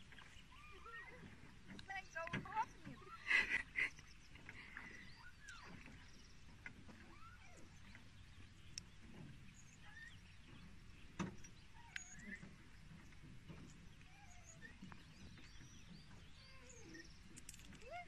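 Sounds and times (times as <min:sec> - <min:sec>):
soft bird chirps: 0:02.6 - 0:06.4, 0:07.1 - 0:17.8.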